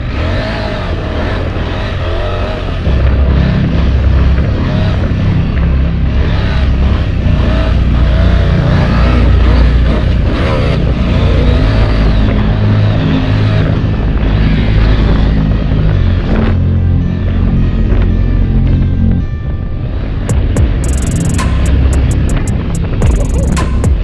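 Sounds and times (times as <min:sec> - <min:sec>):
motorcycle engine revving: 0:00.0 - 0:19.2, 0:20.0 - 0:24.0.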